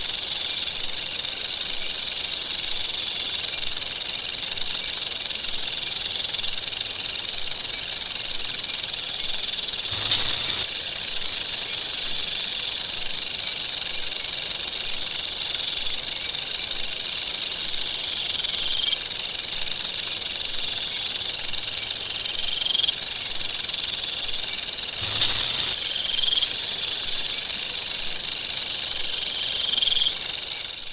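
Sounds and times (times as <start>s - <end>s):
rattlesnake rattling: 0.0s - 30.9s.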